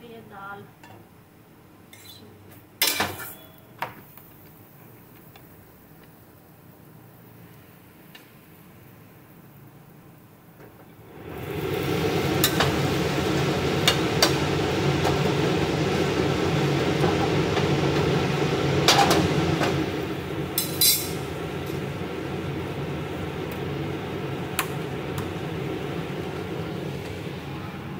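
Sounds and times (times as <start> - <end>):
steady rushing cooking noise: 2.7 - 27.9.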